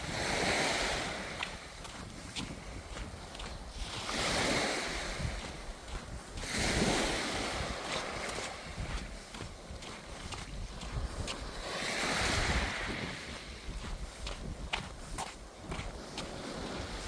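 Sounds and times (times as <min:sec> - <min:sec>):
sea waves breaking on beach: 0:00.0 - 0:17.0
wind buffeting microphone: 0:00.0 - 0:17.0.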